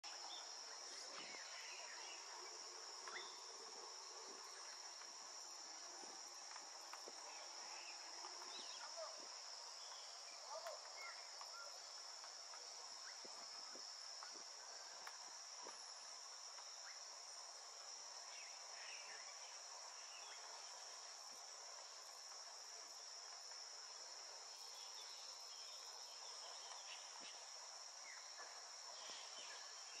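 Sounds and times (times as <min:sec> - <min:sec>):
faint insect chirps: 0:00.0 - 0:30.0.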